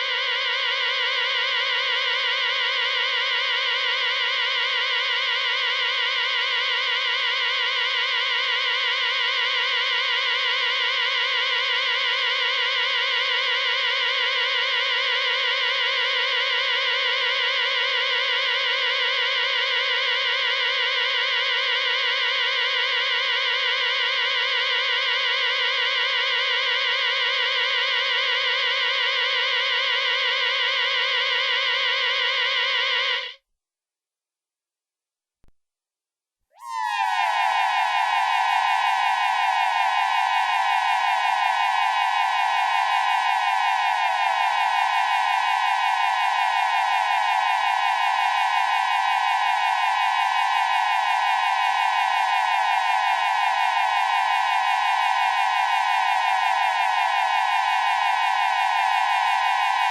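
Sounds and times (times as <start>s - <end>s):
electronic warble alarm: 0.0s - 33.4s, 36.6s - 59.9s.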